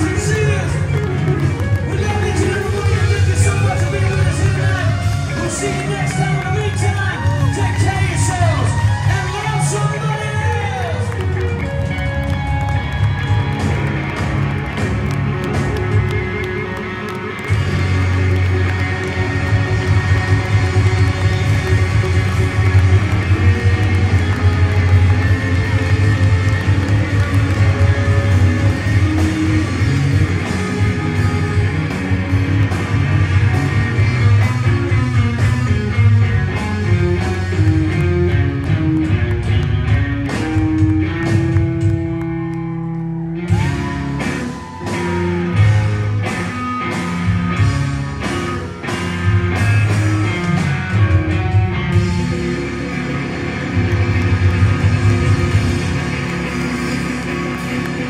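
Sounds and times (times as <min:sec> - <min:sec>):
drum kit: 0:00.0 - 0:42.4, 0:43.5 - 0:58.0
overdriven electric guitars: 0:00.0 - 0:58.0
rock band playing: 0:00.0 - 0:58.0.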